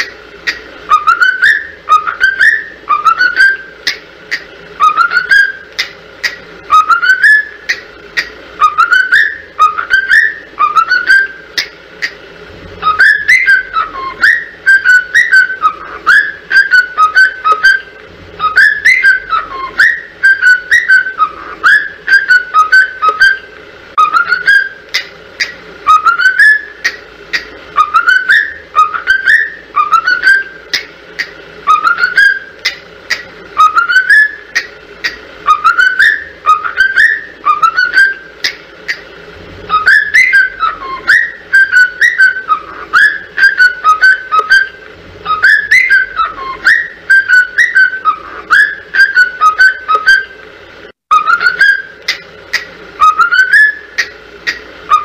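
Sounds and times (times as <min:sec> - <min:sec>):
cockatiel whistling: 0:00.5 - 0:12.2, 0:12.8 - 0:39.0, 0:39.7 - 0:50.4, 0:51.1 - 0:55.0.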